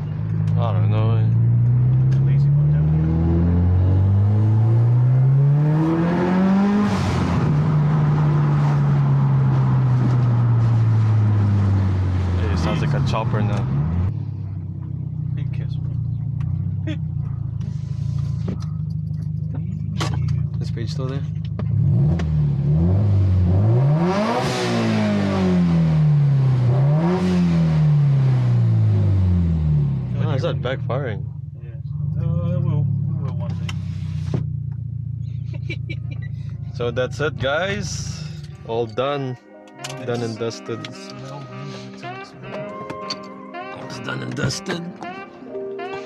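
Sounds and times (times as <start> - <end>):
car engine accelerating: 0.0 - 38.7.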